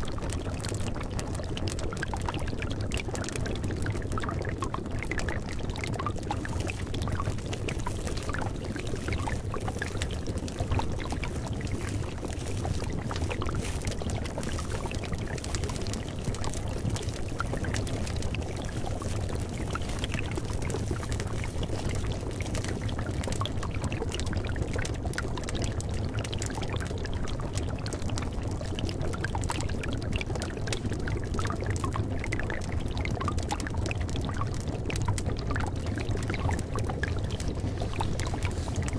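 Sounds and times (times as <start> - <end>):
steady rushing water noise: 1.7 - 32.4, 34.2 - 38.9.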